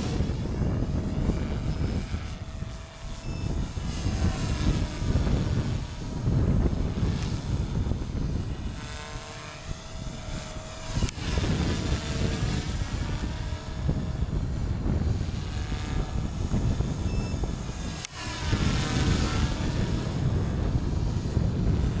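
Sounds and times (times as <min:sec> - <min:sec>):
rc helicopter motor and rotor whine: 0:00.0 - 0:22.0
wind buffeting microphone: 0:00.0 - 0:22.0.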